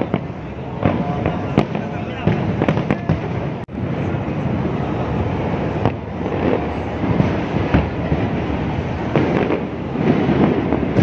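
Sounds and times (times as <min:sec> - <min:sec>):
fireworks bangs: 0:00.0 - 0:11.0
fireworks crackling rumble: 0:00.0 - 0:11.0.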